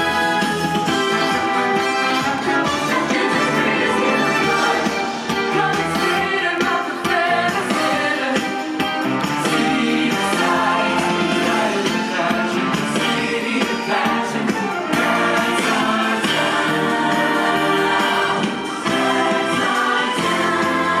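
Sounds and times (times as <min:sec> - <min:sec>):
stage show music with singing: 0:00.0 - 0:21.0.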